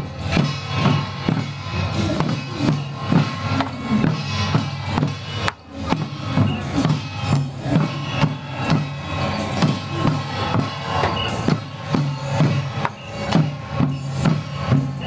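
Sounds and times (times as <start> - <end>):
upbeat drum dance music: 0.0 - 15.0.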